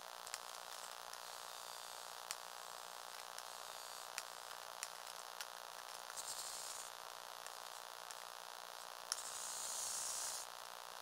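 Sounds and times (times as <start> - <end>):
small electric motor and plastic gears: 0.0 - 11.0.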